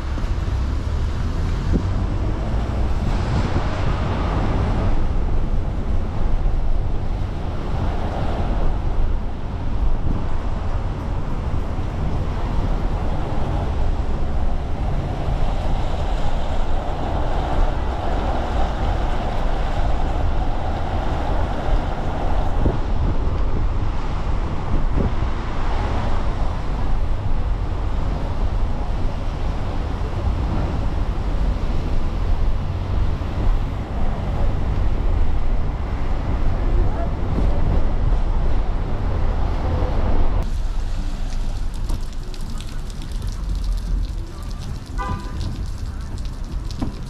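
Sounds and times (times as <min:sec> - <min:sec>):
rain: 0:00.0 - 0:47.0
traffic on wet streets: 0:00.0 - 0:47.0
wind buffeting microphone: 0:00.0 - 0:47.0.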